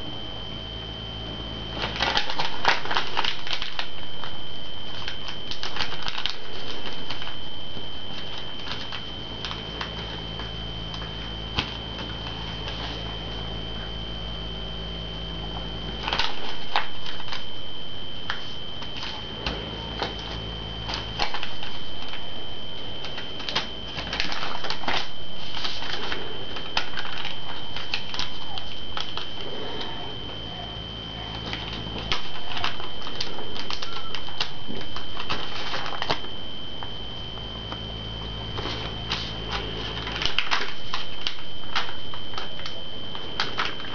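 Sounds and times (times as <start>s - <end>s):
steady high-pitched whine: 0.0s - 43.9s
paper crackling and crinkling: 1.4s - 43.9s.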